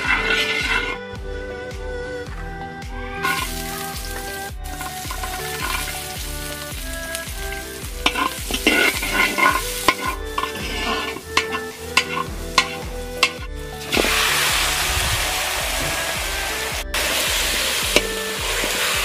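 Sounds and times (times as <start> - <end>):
spatula scraping a wok: 0.0 - 1.0, 3.2 - 19.0
background music: 0.0 - 19.0
onions sizzling in hot oil: 3.2 - 19.0.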